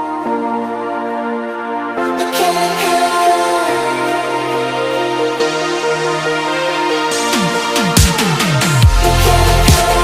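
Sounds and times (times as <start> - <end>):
synthesizer chords: 0.0 - 10.0.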